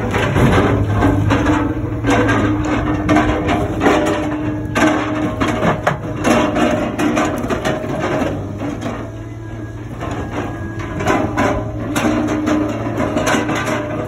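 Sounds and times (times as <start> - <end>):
loader engine and hydraulics: 0.0 - 14.0
logs knocking together: 0.0 - 14.0.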